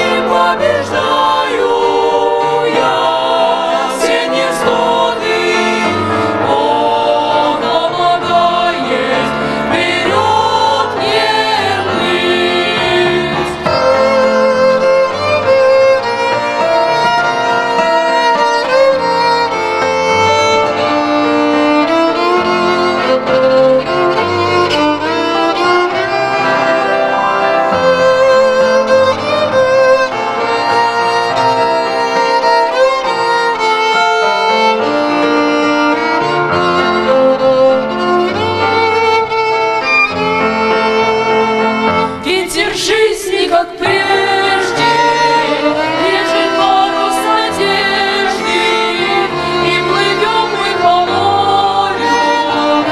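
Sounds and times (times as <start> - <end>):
bowed string accompaniment: 0.0 - 52.9
violin melody: 0.0 - 52.9.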